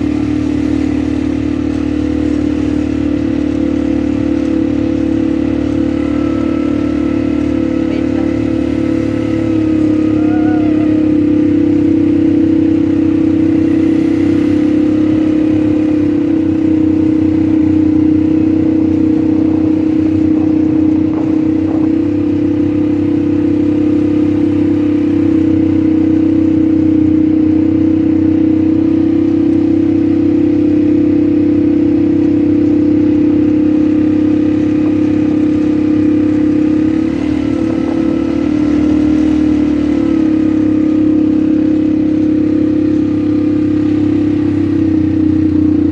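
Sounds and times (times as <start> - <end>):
quad bike engine running: 0.0 - 45.9.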